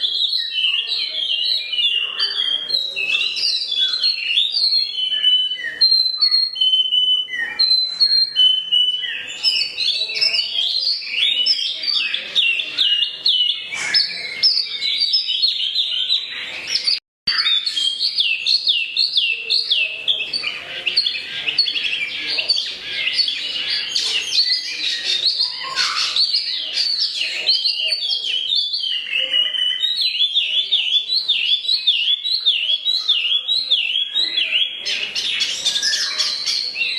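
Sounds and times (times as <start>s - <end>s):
songbird singing chirps and trills: 0.0s - 36.9s.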